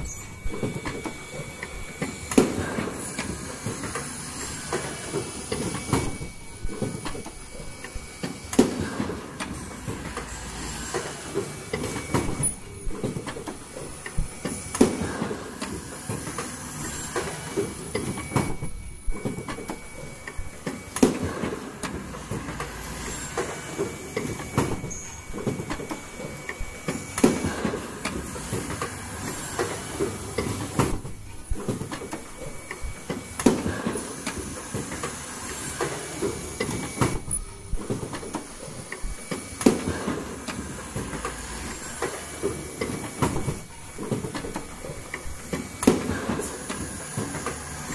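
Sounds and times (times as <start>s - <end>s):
machine clattering: 0.0s - 18.6s, 19.2s - 47.9s.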